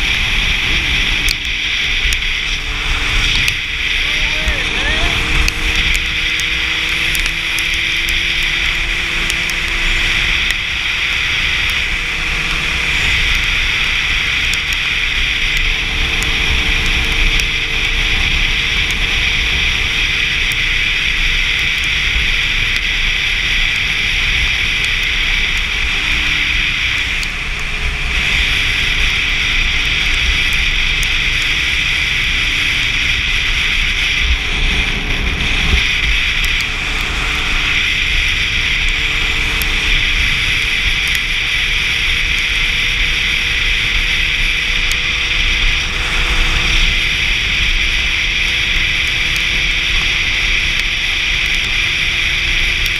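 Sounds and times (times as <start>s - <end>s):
motorcycle engine cruising: 0.0s - 52.9s
wind rushing over microphone: 0.0s - 52.9s.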